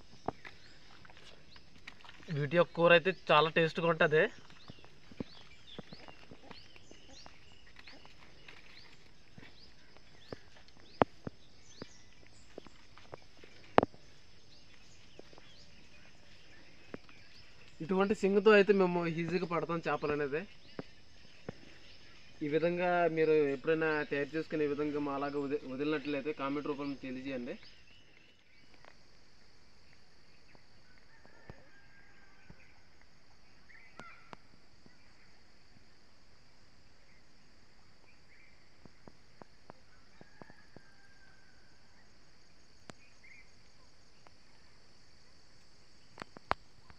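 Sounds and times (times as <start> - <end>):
high insect drone: 0.0 - 46.9
small birds chirping: 0.0 - 46.9.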